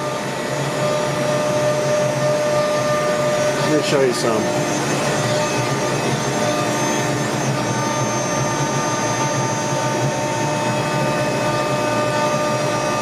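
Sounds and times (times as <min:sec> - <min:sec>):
high steady whines: 0:00.0 - 0:13.0
router and dust collector rushing: 0:00.0 - 0:13.0.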